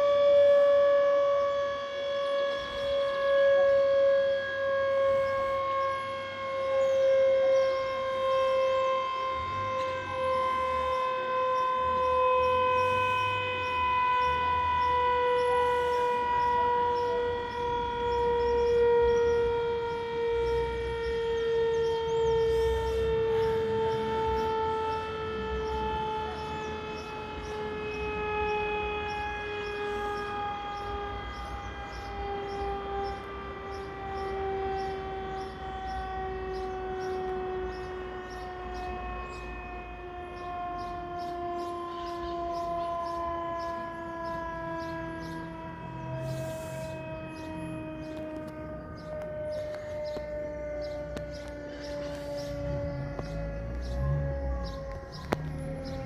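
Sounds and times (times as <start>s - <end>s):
siren with falling pitch: 0.0s - 56.0s.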